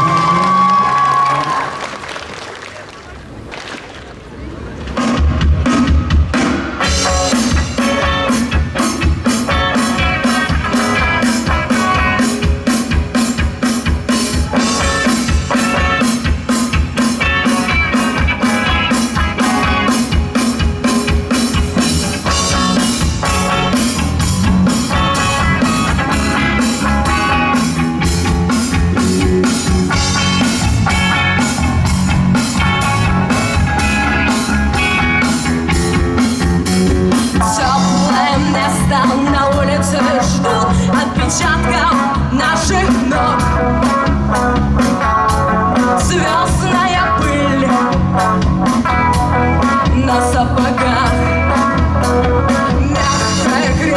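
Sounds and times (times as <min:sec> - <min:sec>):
drum kit beat: 0:05.1 - 0:53.9
electric guitar playing: 0:06.8 - 0:53.9.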